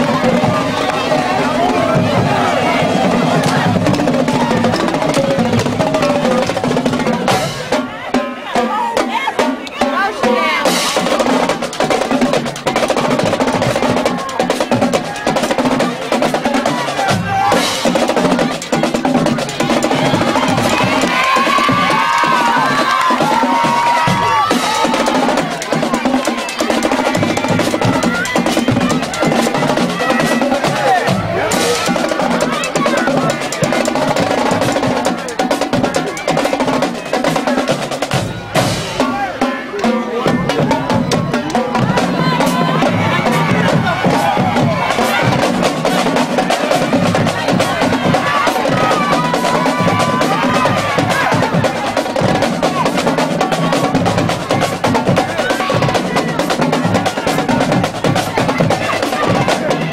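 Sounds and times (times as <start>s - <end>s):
bass drums: 0.0s - 8.0s, 9.8s - 59.9s.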